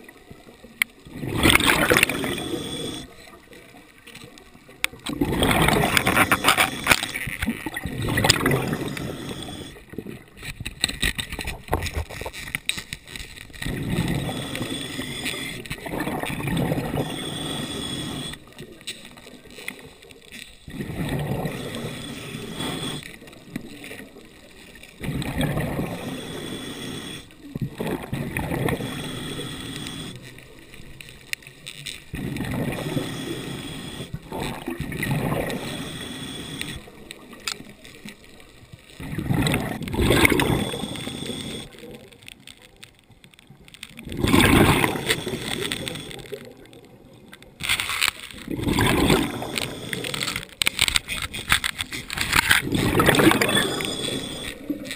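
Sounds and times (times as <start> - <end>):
underwater exhaled air bubbles: 0.0 - 54.9.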